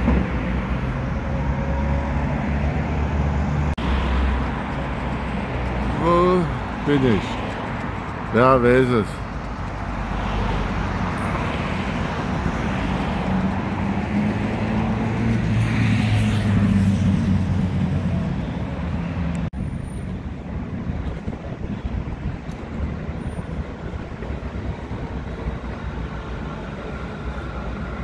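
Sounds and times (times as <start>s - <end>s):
road traffic: 0.0s - 28.0s
vehicle engine hum: 0.0s - 28.0s.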